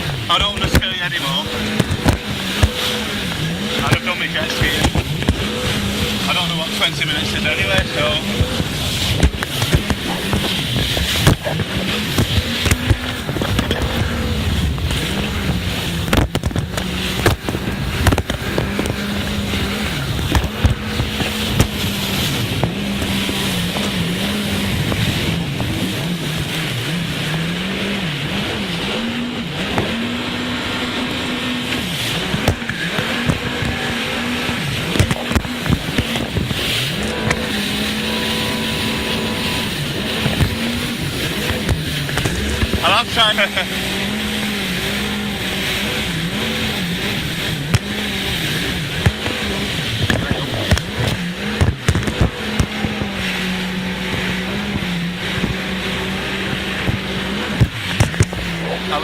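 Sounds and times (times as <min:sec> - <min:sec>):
jet ski engine running: 0:00.0 - 0:59.0.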